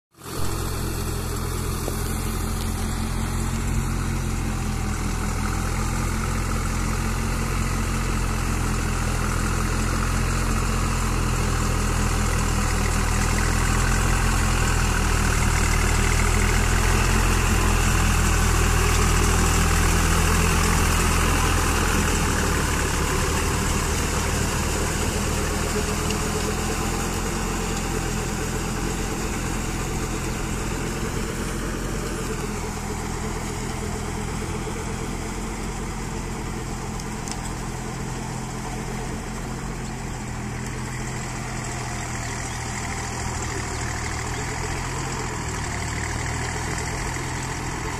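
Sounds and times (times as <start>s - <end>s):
tractor diesel engine running: 0.1s - 47.9s.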